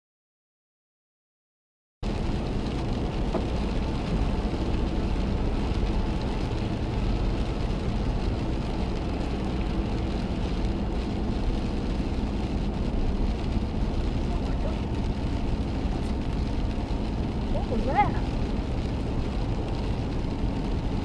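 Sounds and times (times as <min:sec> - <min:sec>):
car engine rumble: 0:02.0 - 0:21.0
road noise: 0:02.0 - 0:21.0.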